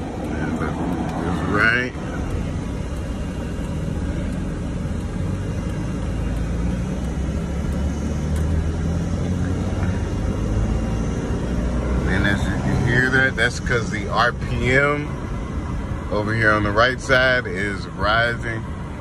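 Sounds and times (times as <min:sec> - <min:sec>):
misfiring car engine drone: 0:00.0 - 0:19.0.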